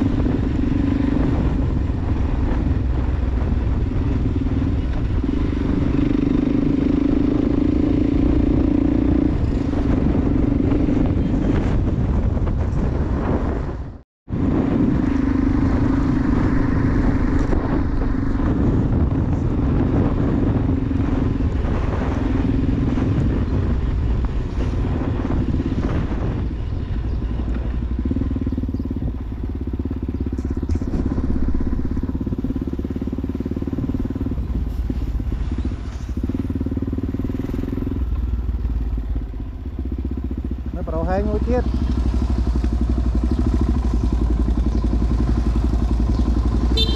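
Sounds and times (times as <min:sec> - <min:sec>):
dirt bike engine running: 0:00.0 - 0:46.9
wind and road noise: 0:00.0 - 0:46.9.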